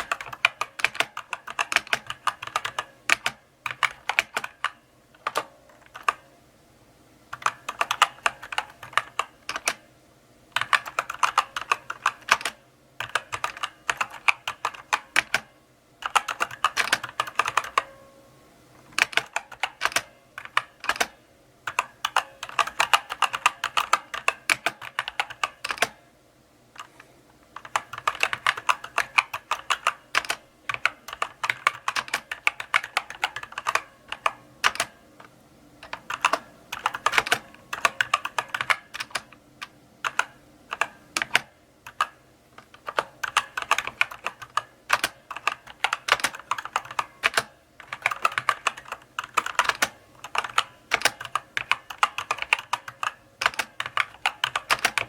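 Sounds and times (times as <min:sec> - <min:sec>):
mechanical keyboard typing: 0:00.0 - 0:06.3, 0:07.3 - 0:09.9, 0:10.5 - 0:17.9, 0:18.9 - 0:26.0, 0:26.8 - 0:55.0.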